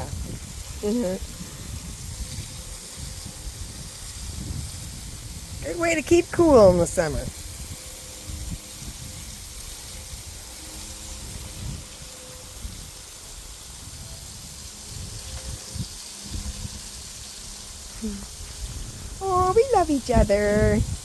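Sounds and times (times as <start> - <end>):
garden hose spraying water: 0.0 - 21.0.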